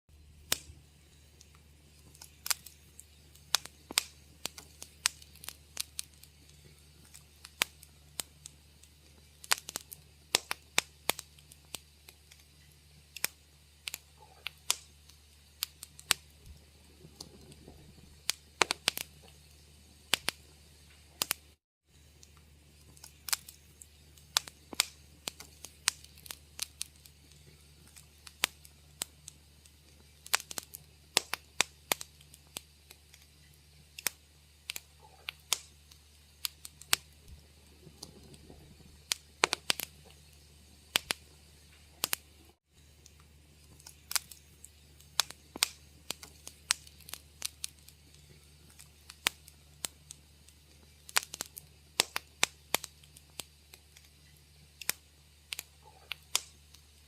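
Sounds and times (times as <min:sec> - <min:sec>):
faint low hum: 0:00.1 - 0:57.0
wood fire crackling: 0:00.1 - 0:57.0.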